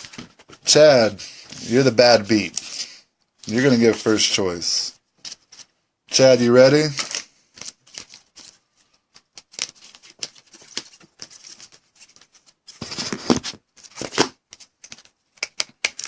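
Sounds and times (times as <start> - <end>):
plastic card sleeves rustling: 0.0 - 4.4, 5.2 - 16.0.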